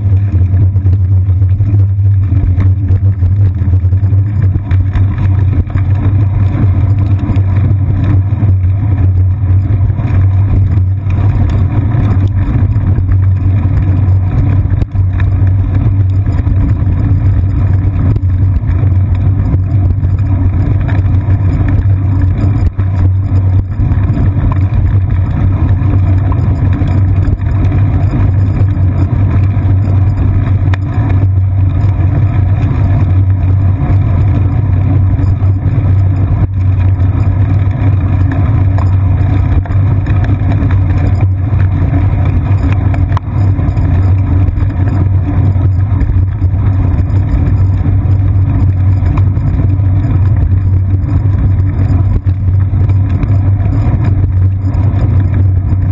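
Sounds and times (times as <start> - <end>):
bicycle rumbling over pavement: 0.0 - 55.9
wind noise on microphone: 0.0 - 55.9.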